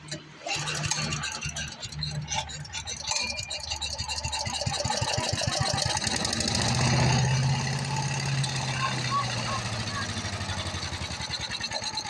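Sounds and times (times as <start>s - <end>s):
small gasoline engine starting up: 0.0s - 12.0s.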